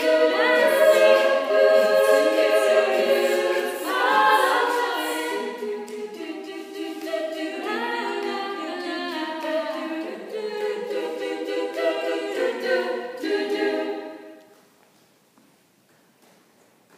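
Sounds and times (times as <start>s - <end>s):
female voices singing a cappella: 0.0s - 14.4s.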